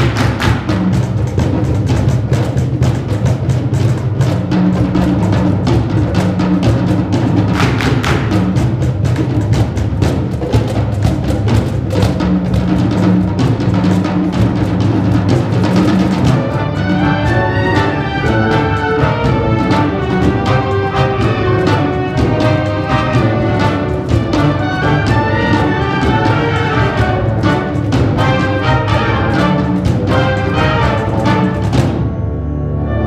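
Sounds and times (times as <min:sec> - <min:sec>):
drum and timpani strikes: 0:00.0 - 0:32.3
concert band playing: 0:00.0 - 0:33.0.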